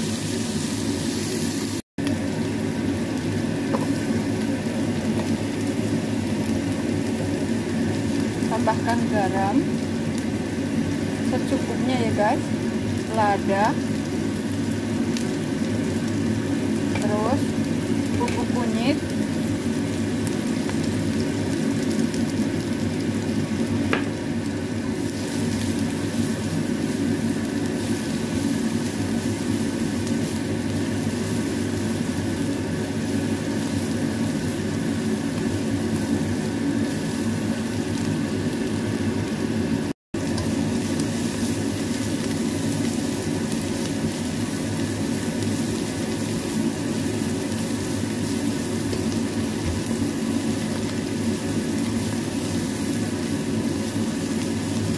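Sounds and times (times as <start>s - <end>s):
spice paste sizzling in oil: 0.0s - 54.9s.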